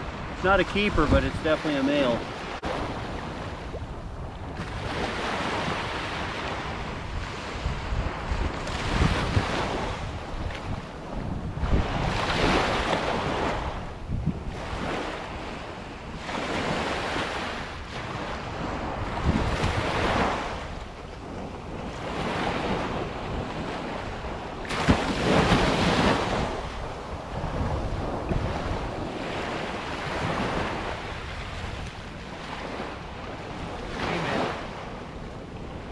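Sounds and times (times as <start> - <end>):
small waves breaking on sand: 0.0 - 35.9
wind buffeting microphone: 0.0 - 35.9.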